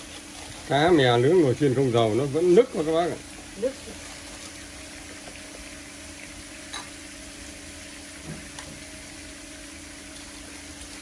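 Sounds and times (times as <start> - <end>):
air fryer hissing and humming: 0.0 - 11.0.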